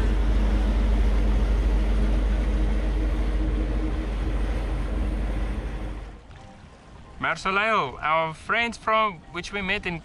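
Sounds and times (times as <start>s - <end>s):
boat engines rumbling: 0.0s - 10.0s.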